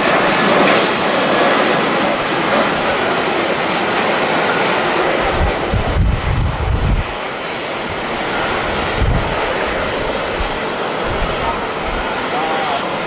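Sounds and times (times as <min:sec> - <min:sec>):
wind buffeting microphone: 0:00.0 - 0:12.3
jet engine noise: 0:00.0 - 0:13.0.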